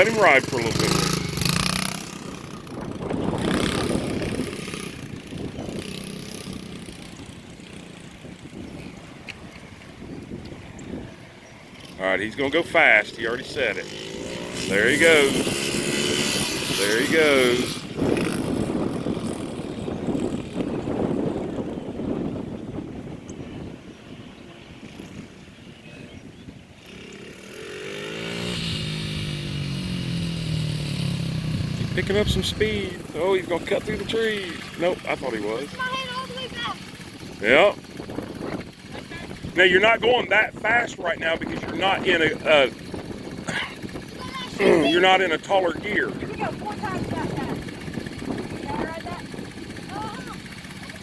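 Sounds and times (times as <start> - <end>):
wind rumble on microphone: 0.0 - 12.0, 13.2 - 27.6, 28.2 - 51.0
dirt bike engine humming: 0.0 - 51.0.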